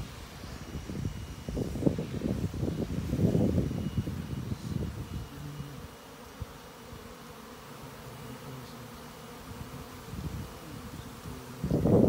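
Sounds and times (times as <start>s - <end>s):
wind rumble on microphone: 0.0s - 7.1s, 9.4s - 12.0s
honeybees buzzing: 0.0s - 12.0s.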